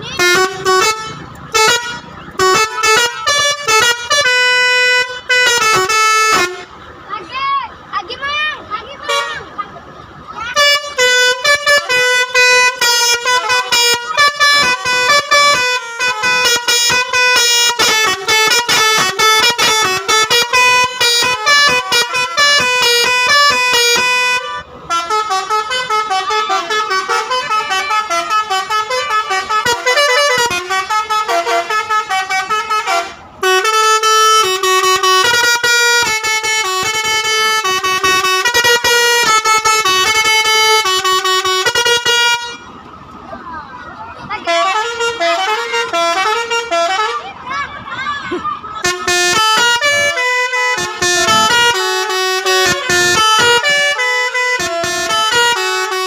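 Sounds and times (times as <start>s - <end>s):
multi-tone air horn melodies: 0.0s - 6.9s, 9.0s - 9.5s, 10.4s - 42.7s, 44.4s - 47.4s, 48.8s - 56.0s.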